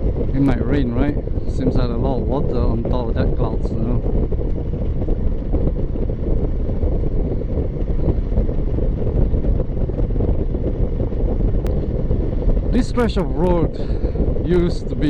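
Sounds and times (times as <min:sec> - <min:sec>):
motorcycle engine: 0:00.0 - 0:14.9
wind rushing over microphone: 0:00.0 - 0:15.0.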